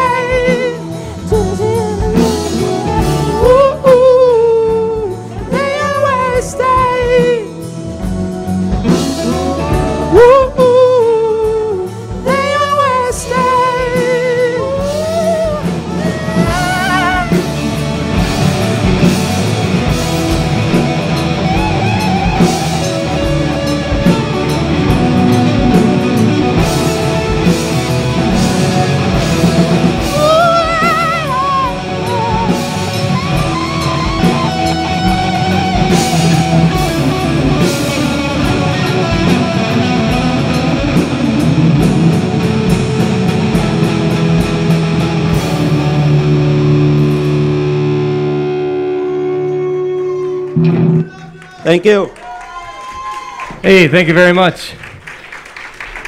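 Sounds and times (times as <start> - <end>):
electric guitars: 0.0 - 53.8
bending lead guitar line: 0.0 - 54.4
drum kit: 0.0 - 56.0.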